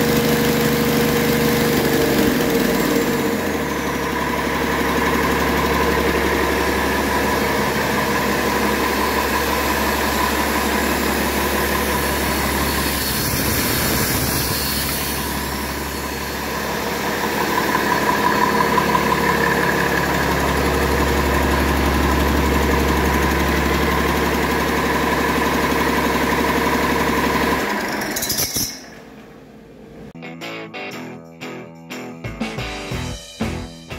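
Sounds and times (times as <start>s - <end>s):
diesel engine running: 0.0s - 28.2s.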